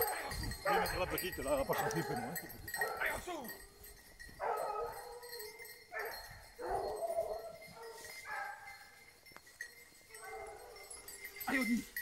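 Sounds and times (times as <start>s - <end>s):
hounds baying: 0.0s - 9.0s, 10.0s - 12.0s.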